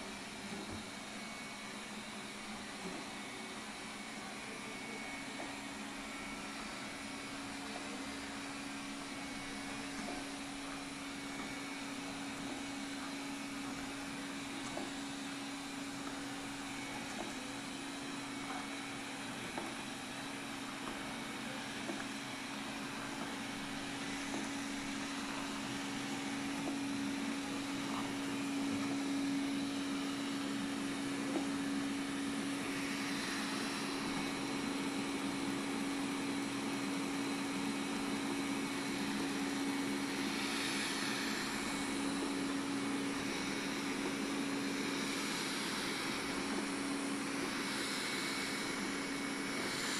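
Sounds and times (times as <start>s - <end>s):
robot vacuum motor hum: 0.0s - 49.9s.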